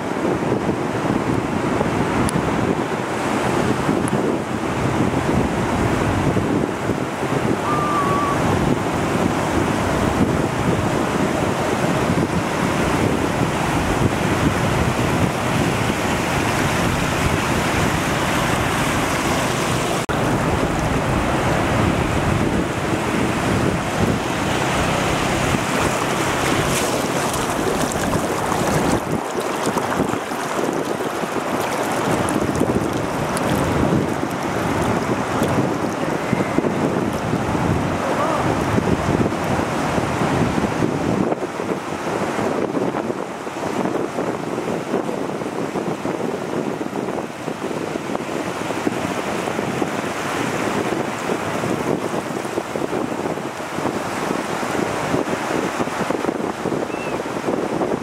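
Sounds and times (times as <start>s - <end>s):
sea surf breaking: 0.0s - 58.0s
wind buffeting microphone: 0.0s - 58.0s.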